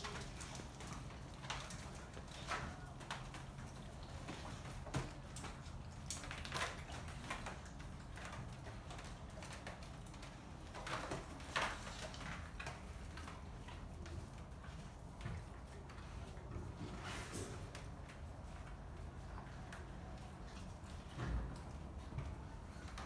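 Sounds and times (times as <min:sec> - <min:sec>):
dogs rustling and snuffling: 0:00.0 - 0:23.0.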